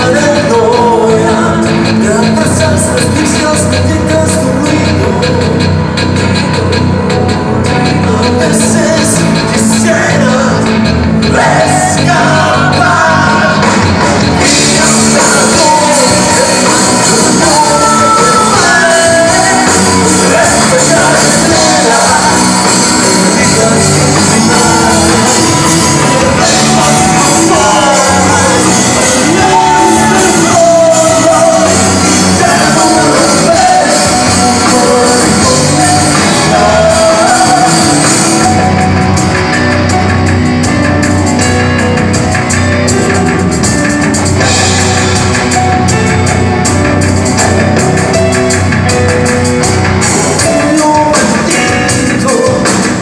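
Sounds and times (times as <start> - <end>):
bass: 0.0 - 53.0
drums: 0.0 - 53.0
electric guitars: 0.0 - 53.0
keyboard: 0.0 - 53.0
person singing: 0.0 - 53.0.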